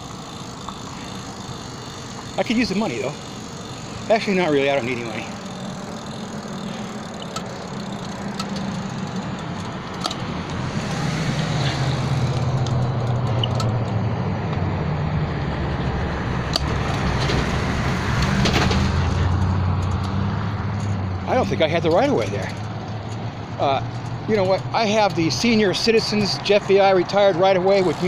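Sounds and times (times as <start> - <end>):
road noise rushing: 0.0 - 28.0
vehicle engine hum: 0.0 - 28.0.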